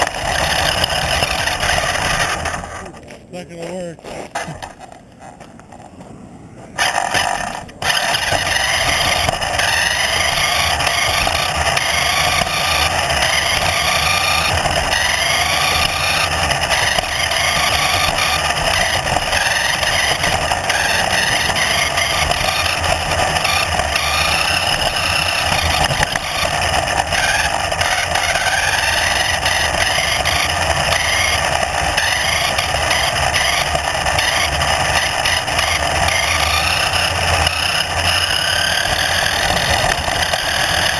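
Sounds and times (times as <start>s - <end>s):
motor running with rising pitch: 0.0s - 40.9s.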